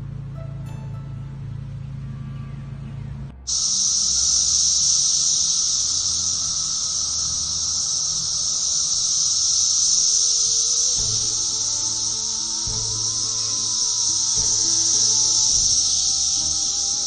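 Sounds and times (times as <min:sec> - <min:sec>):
background music: 0:00.0 - 0:17.0
cicadas singing: 0:00.0 - 0:17.0.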